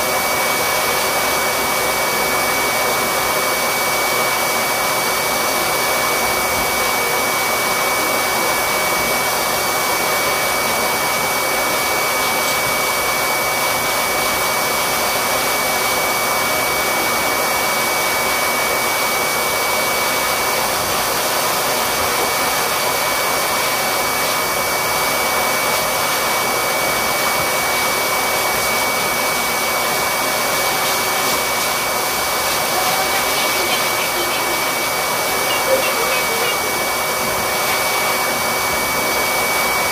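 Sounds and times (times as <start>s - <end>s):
air blower with high whine: 0.0s - 39.9s.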